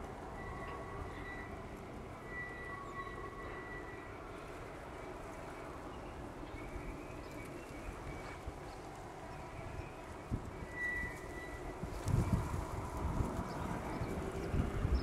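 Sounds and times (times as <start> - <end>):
distant freight train rumble: 0.0 - 15.0.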